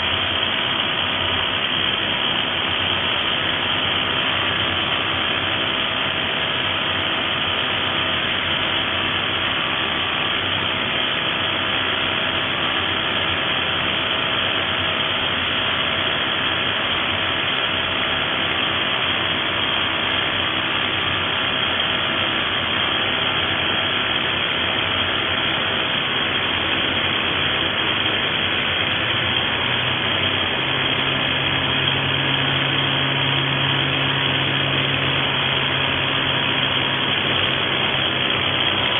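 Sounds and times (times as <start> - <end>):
rotary hammer running: 0.0 - 38.9.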